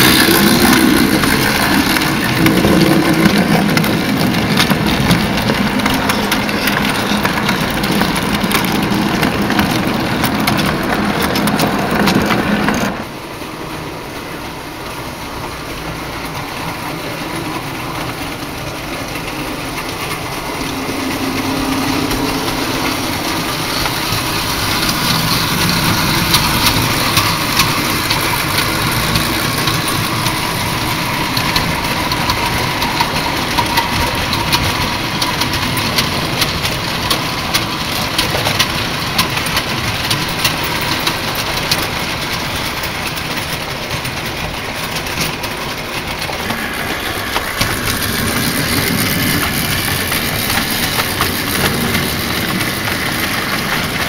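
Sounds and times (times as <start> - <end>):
model train rattling rumble: 0.0 - 54.0
wheels clicking over rail joints: 0.0 - 54.0.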